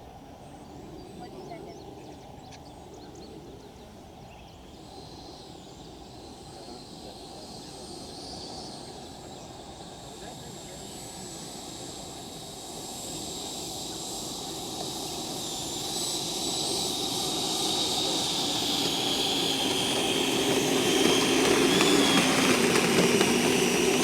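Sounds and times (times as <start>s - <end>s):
electric jet whining in flight: 0.0s - 24.0s.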